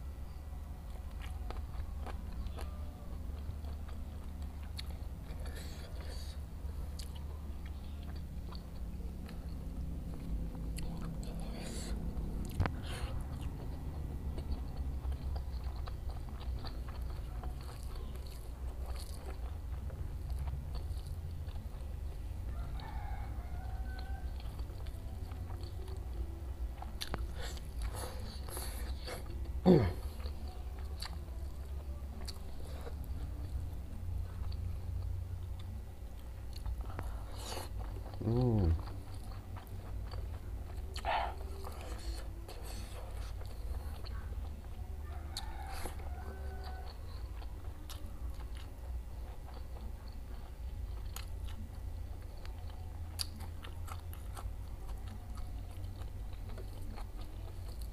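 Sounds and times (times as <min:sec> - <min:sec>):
chewing food: 0:00.0 - 0:57.9
low hum: 0:00.0 - 0:57.9.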